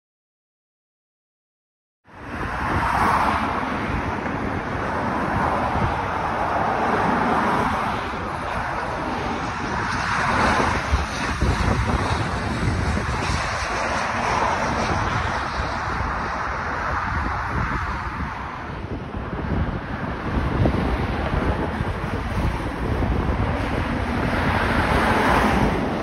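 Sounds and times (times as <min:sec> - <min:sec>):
road traffic: 0:02.0 - 0:26.0
jet airliner engine: 0:02.1 - 0:26.0
wind buffeting microphone: 0:02.1 - 0:26.0.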